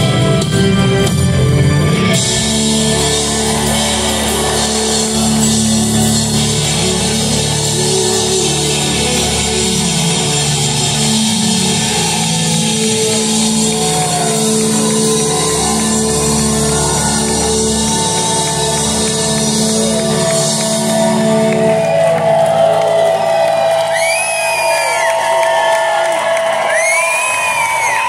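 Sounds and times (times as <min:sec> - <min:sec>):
rock band sustained chord: 0:00.0 - 0:26.7
audience cheering and whistling: 0:00.2 - 0:28.0.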